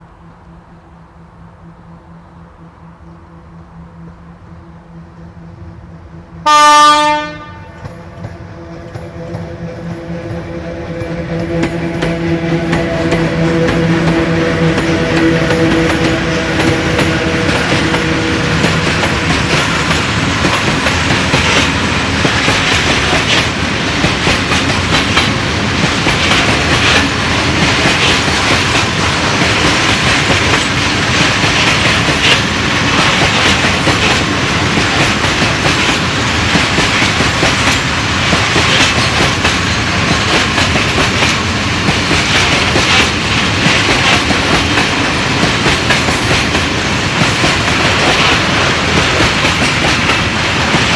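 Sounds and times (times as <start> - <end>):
steady tone from train: 0.0 - 50.9
train wheels clattering over rail joints: 7.8 - 50.9.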